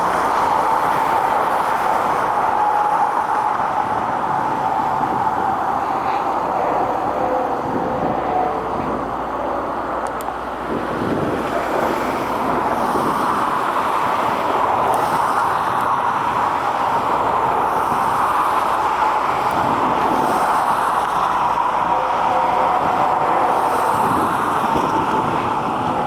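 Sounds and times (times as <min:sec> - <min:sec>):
rushing roar of vehicles: 0:00.0 - 0:26.0.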